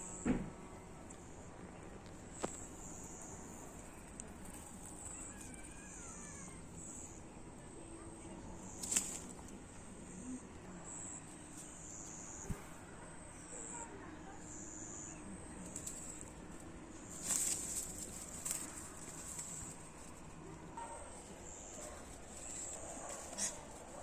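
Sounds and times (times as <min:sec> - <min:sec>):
background hiss: 0:00.0 - 0:24.0
insects chirping: 0:00.0 - 0:24.0.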